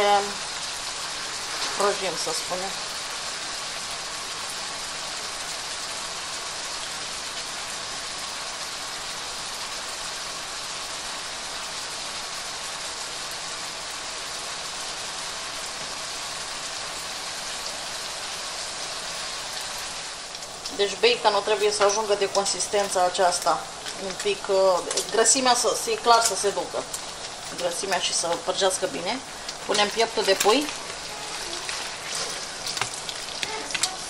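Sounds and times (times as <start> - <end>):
bacon sizzling in oil: 0.0 - 34.0
range hood fan running: 0.0 - 34.0.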